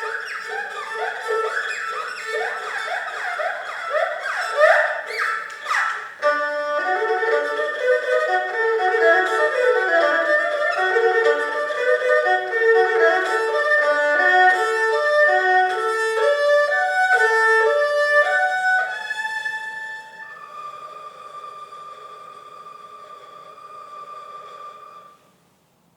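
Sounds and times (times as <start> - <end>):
erhu playing: 0.0 - 25.2.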